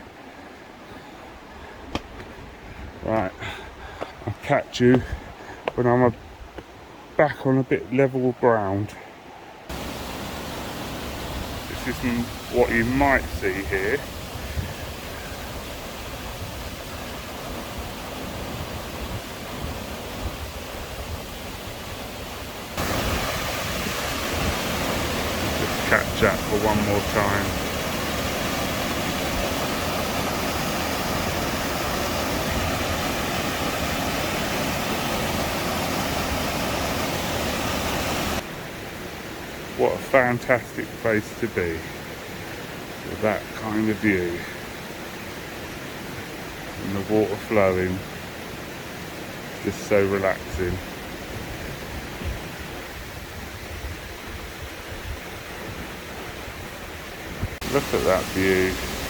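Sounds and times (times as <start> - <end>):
waterfall rushing: 9.7 - 59.0.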